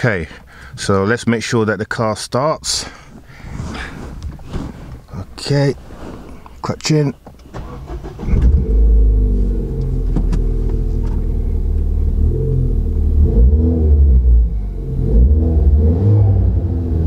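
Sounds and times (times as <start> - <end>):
car engine starting and running: 3.2 - 17.0.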